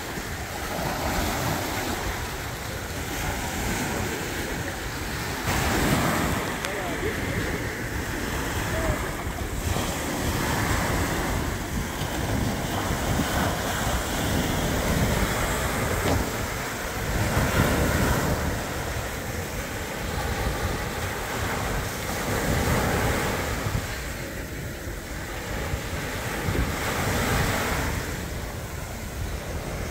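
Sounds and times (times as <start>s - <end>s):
waves breaking on sandy beach: 0.0s - 29.9s
wind buffeting microphone: 0.0s - 29.9s.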